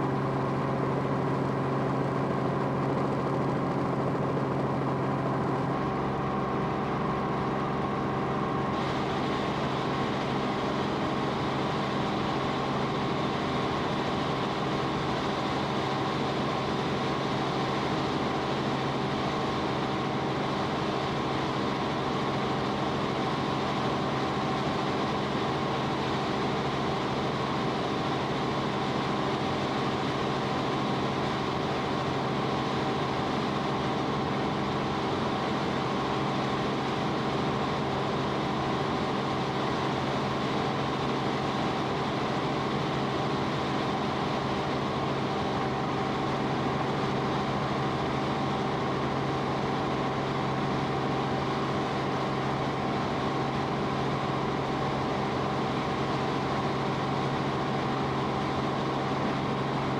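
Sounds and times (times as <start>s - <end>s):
aircraft engine drone in cabin: 0.0s - 59.9s.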